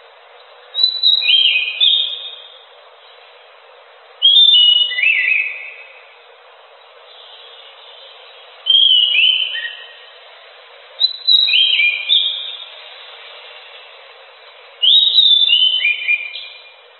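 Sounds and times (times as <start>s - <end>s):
thrush singing whistled notes: 0.0s - 3.6s, 4.2s - 6.2s, 6.8s - 16.9s
faint steady hiss: 0.0s - 16.9s.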